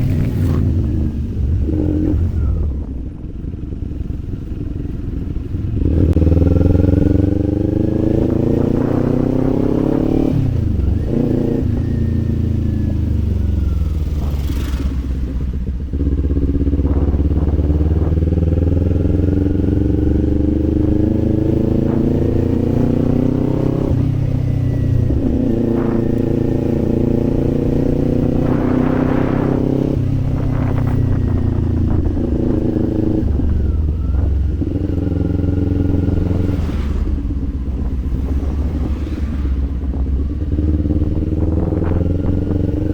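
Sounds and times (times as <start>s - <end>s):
motorcycle engine revving through gears: 0.0s - 42.9s.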